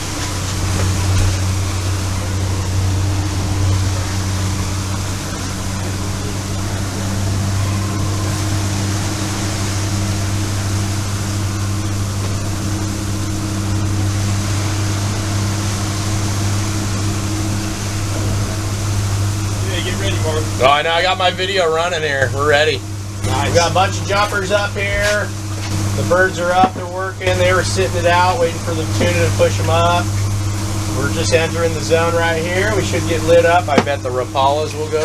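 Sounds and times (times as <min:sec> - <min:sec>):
boat engine droning: 0:00.0 - 0:35.0
water rushing: 0:00.0 - 0:35.0
wind: 0:00.0 - 0:35.0.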